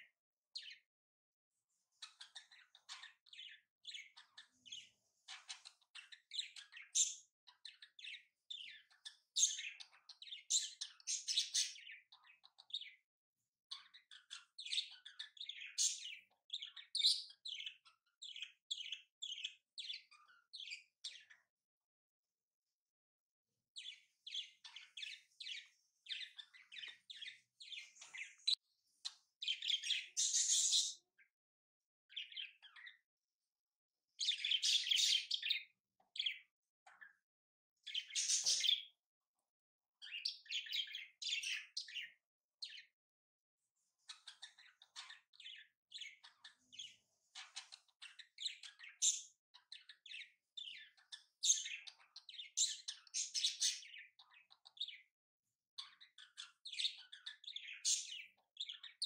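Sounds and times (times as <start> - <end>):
small birds chirping: 0.0 - 43.0, 43.6 - 59.0.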